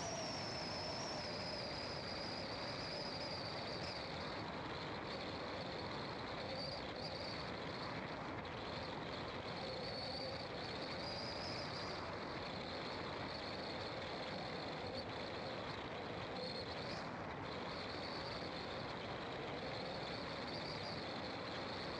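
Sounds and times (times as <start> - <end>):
car engine and tyre noise: 0.0 - 21.9.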